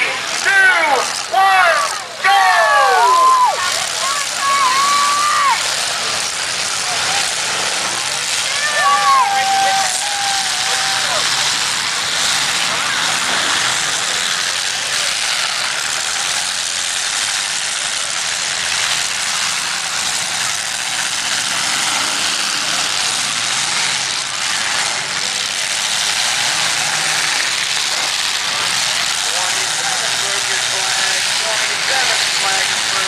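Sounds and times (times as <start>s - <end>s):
car engines running together: 0.0s - 33.0s.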